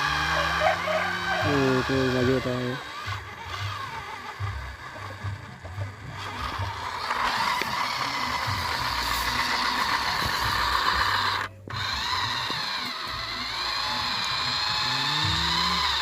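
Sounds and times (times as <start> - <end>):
toy truck electric motor whine: 0.0 - 16.0.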